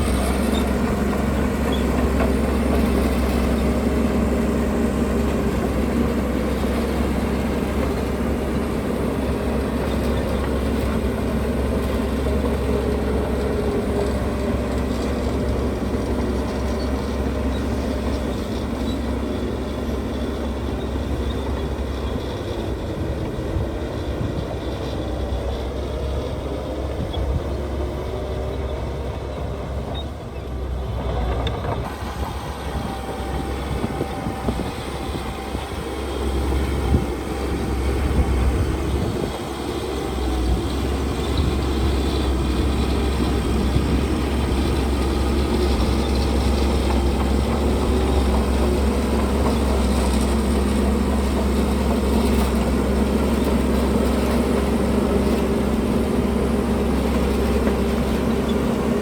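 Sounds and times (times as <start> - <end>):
diesel machinery engine rumble: 0.0 - 59.0.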